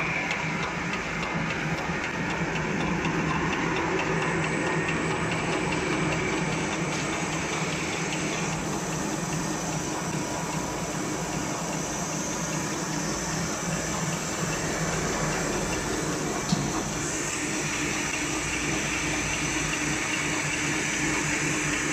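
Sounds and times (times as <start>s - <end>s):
folding machine humming and whirring: 0.0s - 21.9s.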